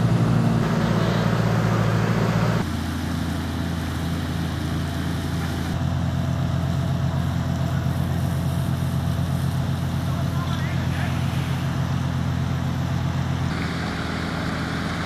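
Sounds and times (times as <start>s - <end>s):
pump engines droning: 0.0s - 15.0s.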